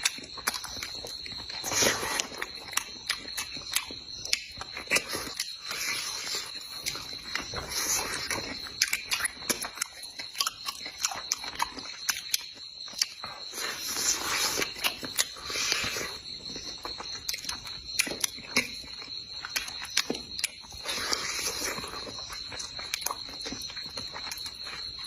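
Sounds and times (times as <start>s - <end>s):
chewing with wet mouth smacks: 0.0s - 25.0s.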